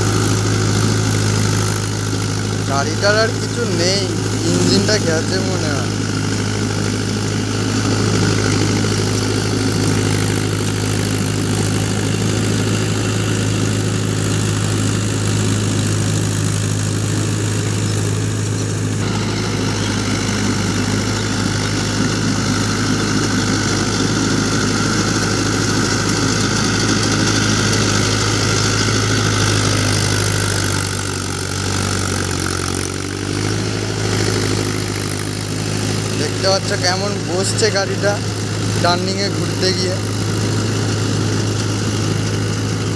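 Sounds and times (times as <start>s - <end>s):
rotary tiller in mud: 0.0s - 42.9s
tractor diesel engine running: 0.0s - 42.9s.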